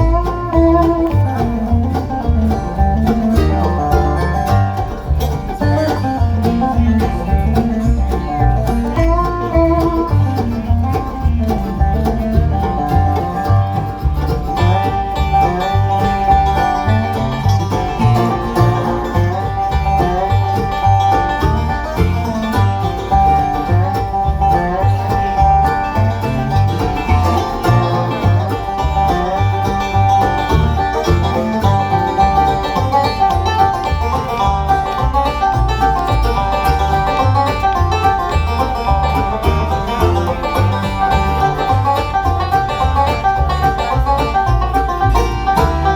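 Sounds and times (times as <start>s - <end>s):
banjo: 0.0s - 45.9s
bluegrass band playing: 0.0s - 45.9s
guitar: 0.0s - 45.9s
steady bass beat: 0.0s - 45.9s.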